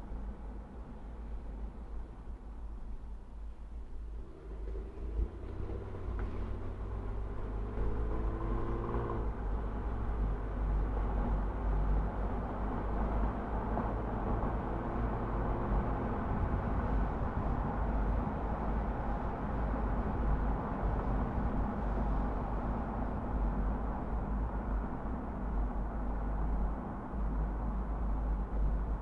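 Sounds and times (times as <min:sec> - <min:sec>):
car engine hum: 0:00.0 - 0:29.0
road and tyre noise: 0:00.0 - 0:29.0.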